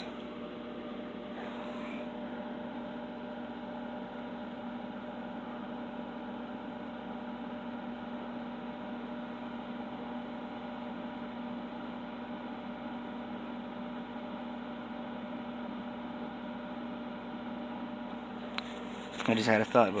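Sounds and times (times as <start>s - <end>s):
electrical hum with buzz: 0.0s - 20.0s.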